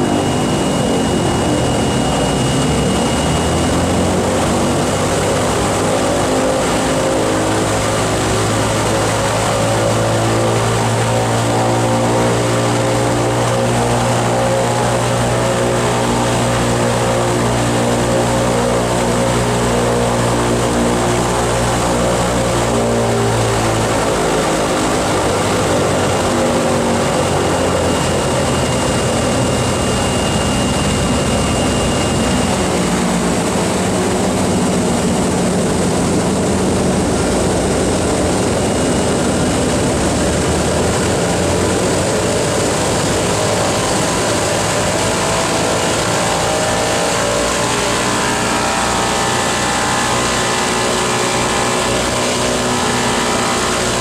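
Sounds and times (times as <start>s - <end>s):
radial piston aircraft engines: 0.0s - 54.0s.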